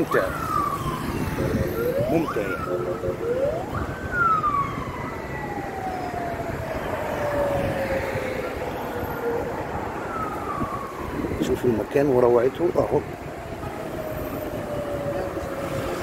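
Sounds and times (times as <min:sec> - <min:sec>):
emergency vehicle siren whooping: 0:00.0 - 0:16.0.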